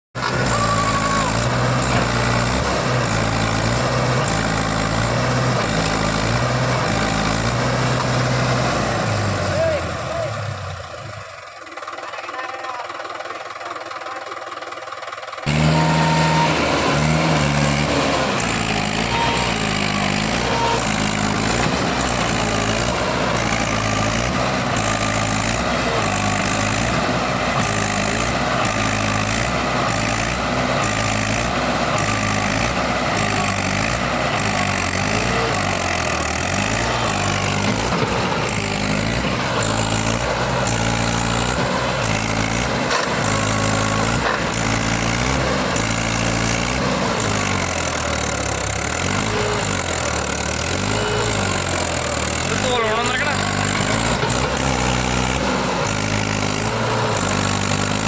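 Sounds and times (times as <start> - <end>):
tractor diesel engine revving: 0.1 - 58.0.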